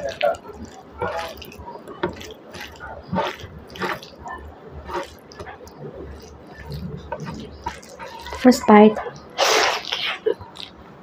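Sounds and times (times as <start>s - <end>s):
sticky food squishes: 0.0s - 11.0s.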